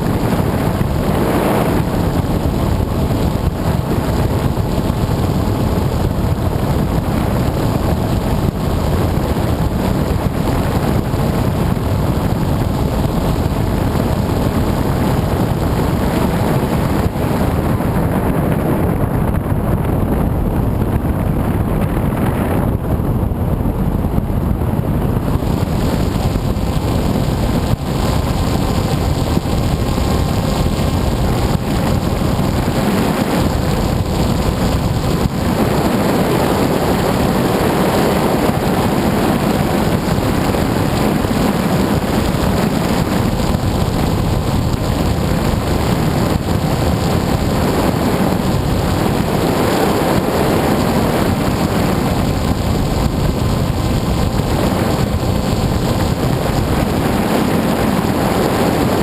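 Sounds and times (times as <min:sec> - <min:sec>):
model aircraft motor running: 0:00.0 - 0:59.0
wind rushing over microphone: 0:00.0 - 0:59.0.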